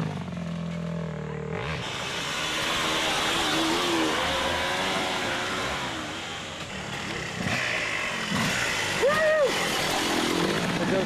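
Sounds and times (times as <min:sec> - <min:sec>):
dirt bike engine revving: 0:01.4 - 0:11.0.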